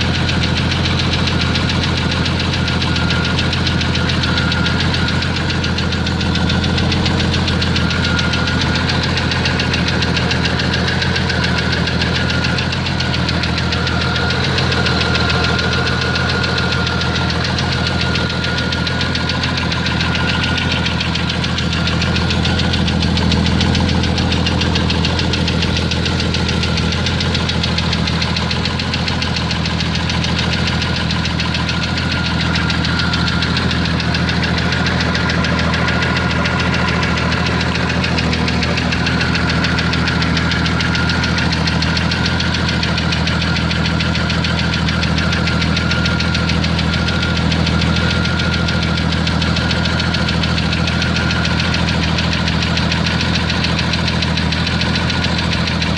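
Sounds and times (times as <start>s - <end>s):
car engine running: 0.0s - 55.9s
rapid even engine knock: 0.0s - 55.9s.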